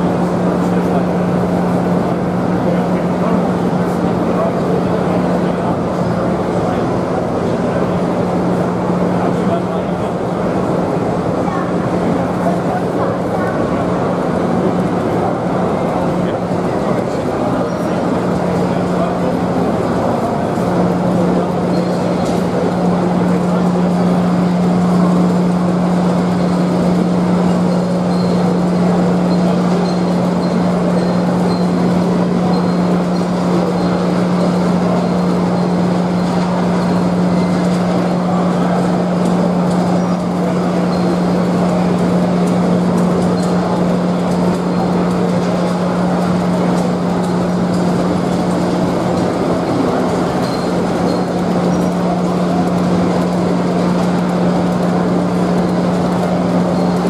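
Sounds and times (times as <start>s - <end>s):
busy hall crowd din: 0.0s - 57.0s.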